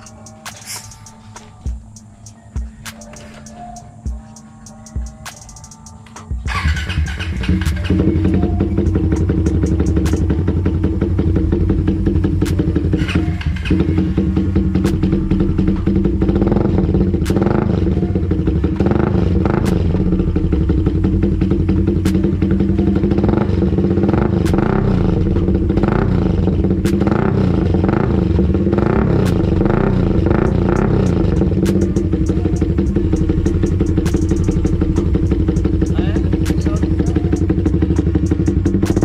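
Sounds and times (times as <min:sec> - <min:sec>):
sharp ticks: 0:00.0 - 0:39.0
motorcycle engine running loudly: 0:06.3 - 0:39.0.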